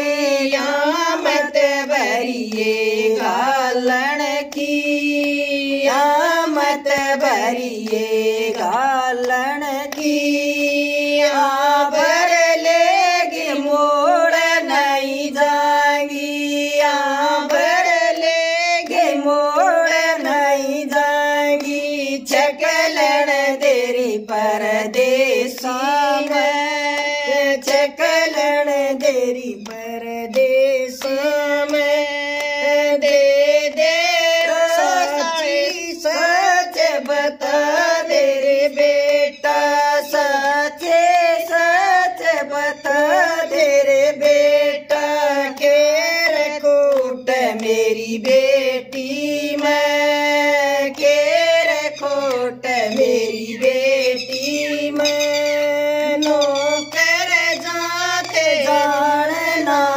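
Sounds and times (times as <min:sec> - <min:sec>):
women singing unaccompanied: 0:00.0 - 0:59.9.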